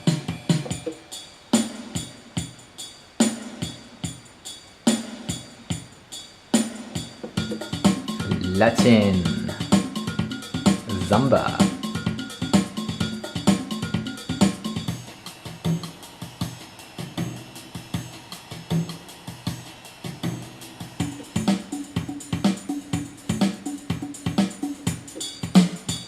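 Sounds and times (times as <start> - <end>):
electronic drum rhythm pattern: 0.0 - 16.7, 17.8 - 26.0.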